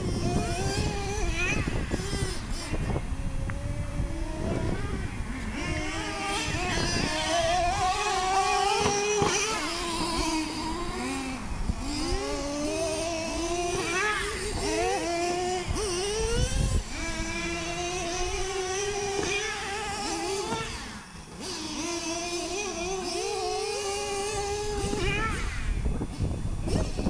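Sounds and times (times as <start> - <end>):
rc truck engines buzzing and revving: 0.0 - 27.0.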